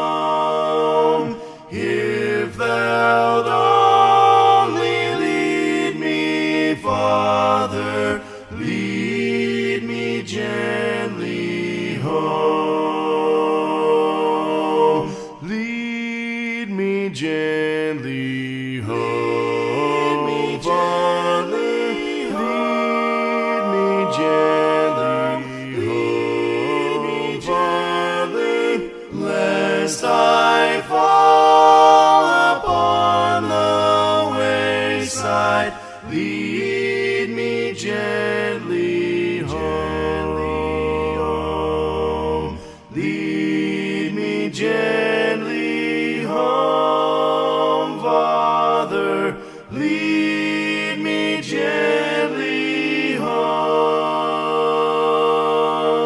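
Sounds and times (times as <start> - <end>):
group singing hymn a cappella: 0.0 - 56.0.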